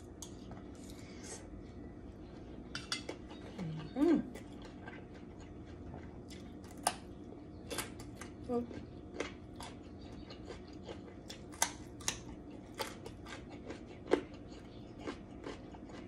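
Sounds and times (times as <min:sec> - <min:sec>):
quiet chewing: 0:00.1 - 0:16.0.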